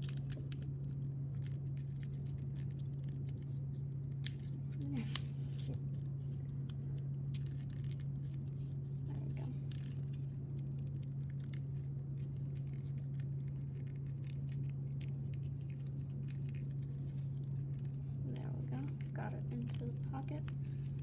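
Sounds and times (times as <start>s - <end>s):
paper crinkling and rustling: 0.0s - 21.0s
steady low hum: 0.0s - 21.0s.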